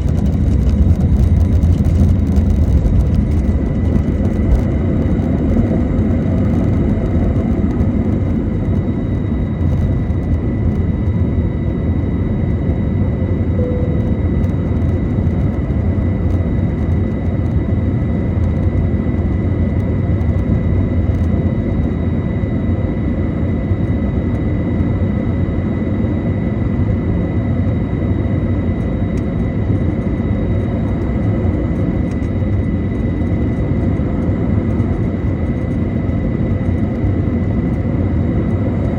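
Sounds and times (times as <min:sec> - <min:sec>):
high jet engine whine: 0:00.0 - 0:38.9
jet engines rumbling: 0:00.0 - 0:38.9.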